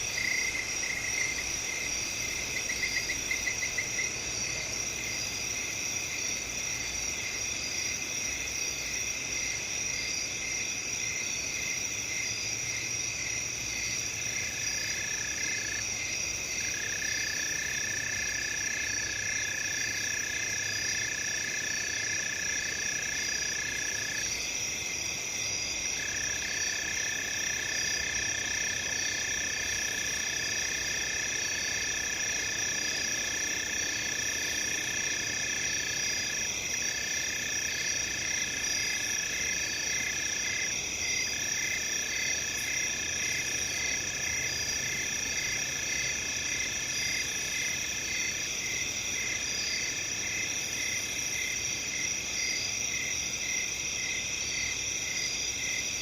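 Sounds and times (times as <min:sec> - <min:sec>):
cricket chirping in a regular pulse: 0:00.0 - 0:56.0
crickets trilling: 0:00.0 - 0:56.0.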